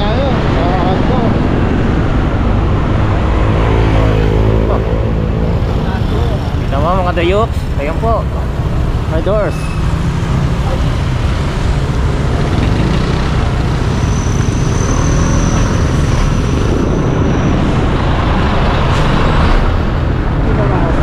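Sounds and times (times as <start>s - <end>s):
road vehicle rumble: 0.0s - 21.0s.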